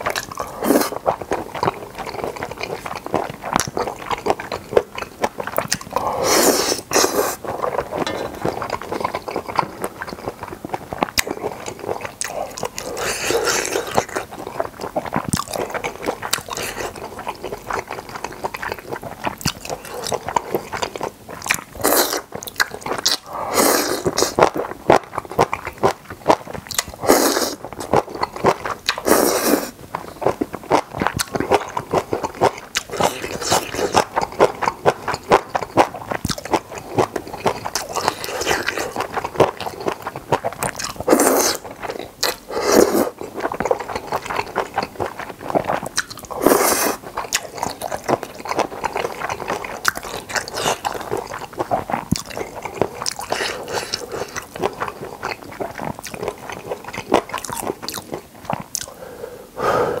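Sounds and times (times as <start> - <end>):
wet chewing and biting clicks: 6.8 - 23.3, 24.0 - 29.1, 29.9 - 59.0.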